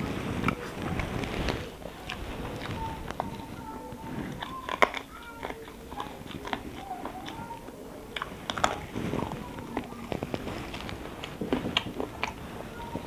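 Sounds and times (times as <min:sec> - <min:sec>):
chewing with the mouth: 0:00.0 - 0:13.0
fingers mixing rice on a plate: 0:00.0 - 0:13.0.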